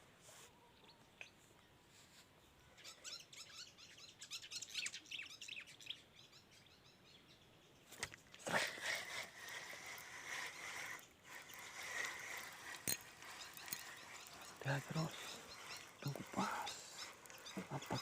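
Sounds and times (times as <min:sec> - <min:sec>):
small birds chirping: 0:00.6 - 0:18.0.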